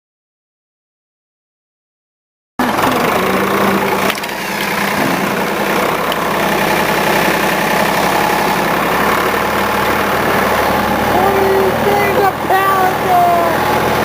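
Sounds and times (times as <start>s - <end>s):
backhoe engine running: 2.6s - 14.0s.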